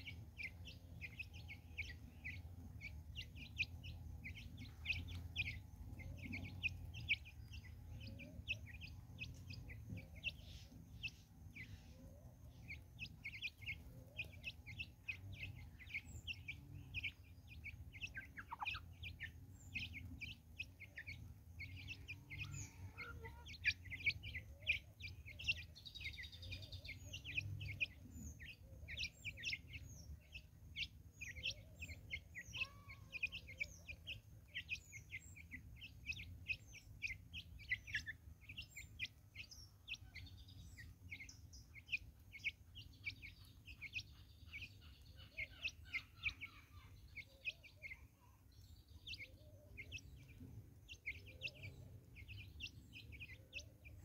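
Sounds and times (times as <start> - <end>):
birds chirping: 0.0 - 54.0
bright bird call: 0.0 - 54.0.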